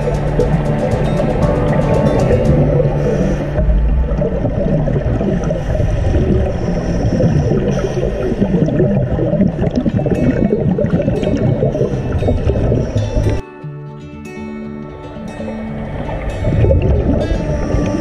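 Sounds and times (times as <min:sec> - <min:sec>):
bubbles from divers: 0:00.0 - 0:13.4, 0:16.0 - 0:18.0
muffled underwater rumble: 0:00.0 - 0:13.4, 0:15.8 - 0:18.0.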